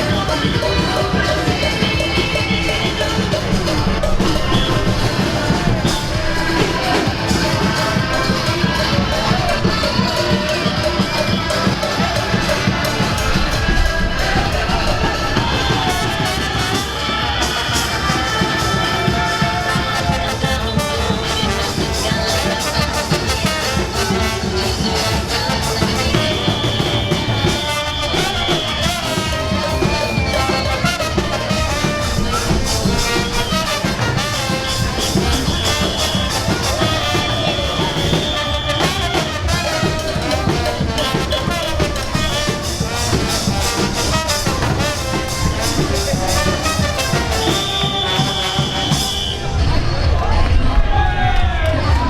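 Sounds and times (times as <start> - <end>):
latin pop music with brass and singing: 0.0 - 52.0.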